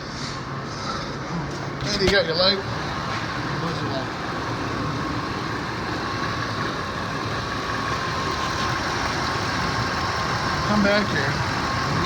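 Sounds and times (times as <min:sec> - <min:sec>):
thin steady whine: 0:00.0 - 0:12.0
truck engine idling: 0:00.0 - 0:12.0.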